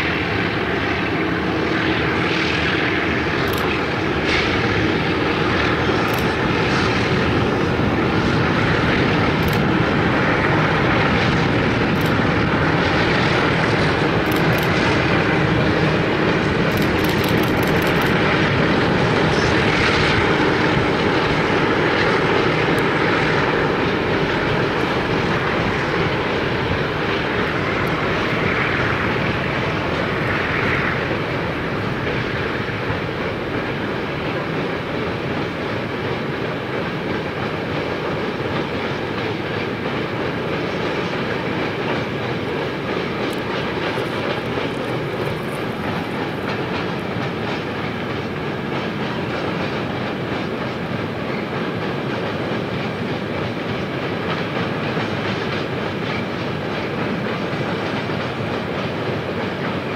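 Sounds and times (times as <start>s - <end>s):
train wheels rolling on rail: 0.0s - 59.9s.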